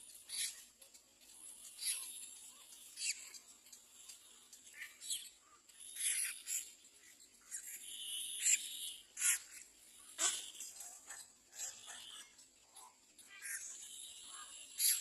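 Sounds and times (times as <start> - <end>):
birds chirping: 0.1 - 15.0.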